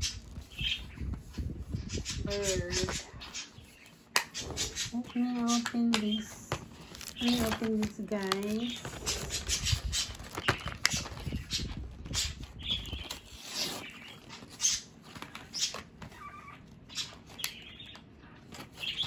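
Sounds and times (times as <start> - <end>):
plastic blister pack crackling: 0.0 - 1.7, 3.6 - 19.0
pet birds chirping: 0.0 - 19.0.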